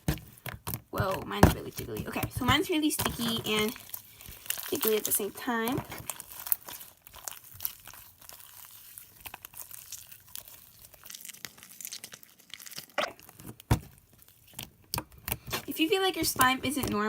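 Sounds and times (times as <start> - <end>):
slime squelching and clicking: 0.0 - 17.0
slime squish: 0.0 - 17.0.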